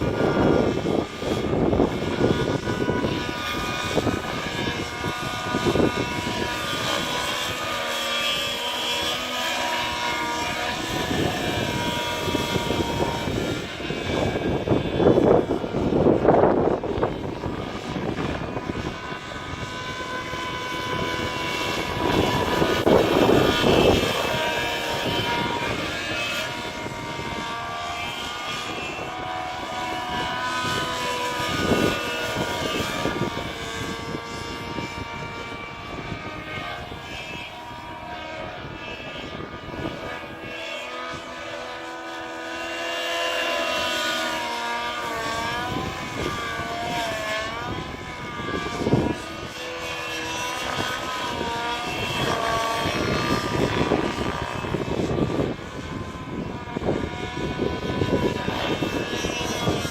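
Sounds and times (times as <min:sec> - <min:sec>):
rc helicopter engine whining: 0:00.0 - 0:59.9
rotor noise: 0:00.0 - 0:59.9.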